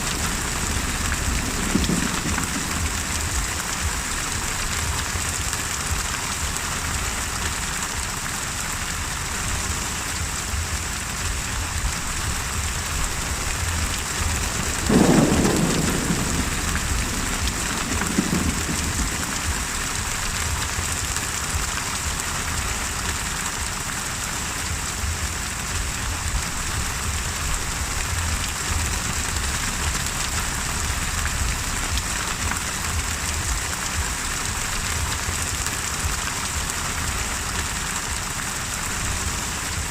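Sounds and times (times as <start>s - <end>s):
thunder clap and rumble: 0.0s - 8.2s, 9.4s - 24.0s, 24.6s - 39.9s
heavy rain hissing: 0.0s - 39.9s.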